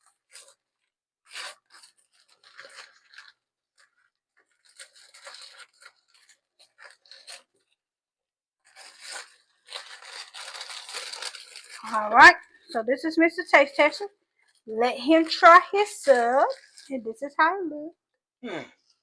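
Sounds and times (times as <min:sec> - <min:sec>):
paper wrapper tearing and rustling: 0:00.0 - 0:07.8, 0:08.6 - 0:12.8, 0:13.5 - 0:17.0.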